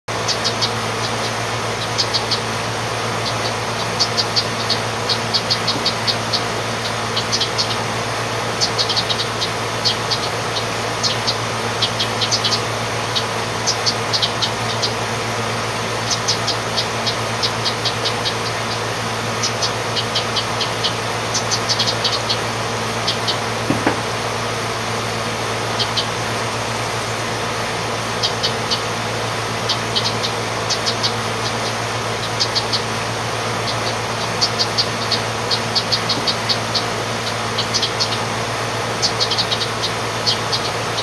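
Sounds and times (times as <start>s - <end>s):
air conditioner humming: 0.1s - 41.0s
wrens chipping: 0.1s - 41.0s.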